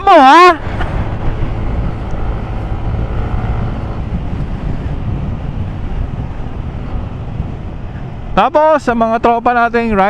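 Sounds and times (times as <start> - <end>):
motorcycle engine: 0.0 - 9.9
road noise: 0.0 - 10.0
wind buffeting microphone: 0.0 - 10.0.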